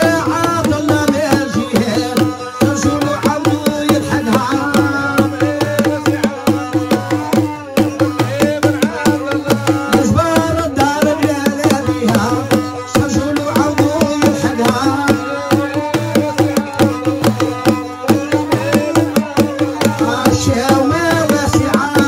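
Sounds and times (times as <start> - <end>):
hand drums beating: 0.0 - 22.0.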